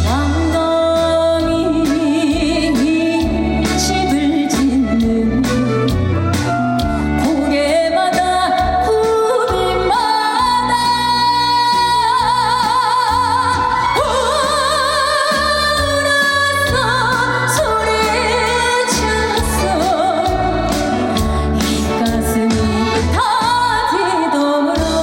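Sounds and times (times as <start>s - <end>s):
woman singing with vibrato: 0.0s - 6.2s, 7.0s - 25.0s
band backing music: 0.0s - 25.0s.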